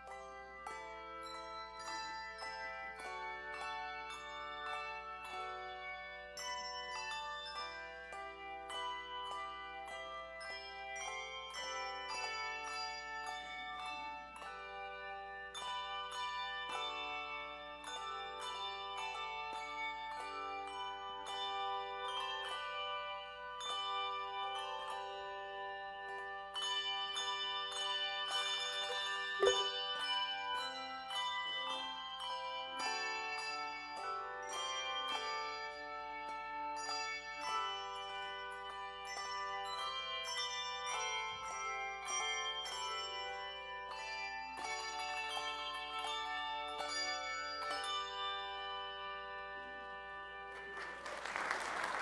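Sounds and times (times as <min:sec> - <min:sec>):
bell melody: 0:00.0 - 0:52.0.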